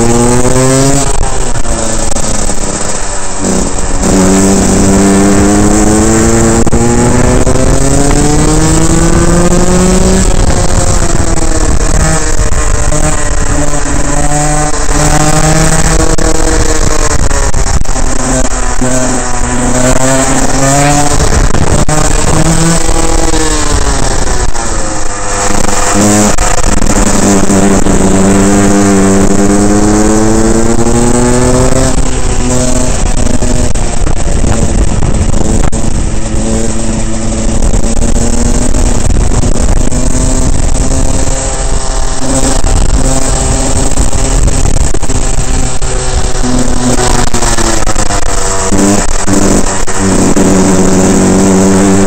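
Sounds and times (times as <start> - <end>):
kart engine revving: 0.0 - 52.0.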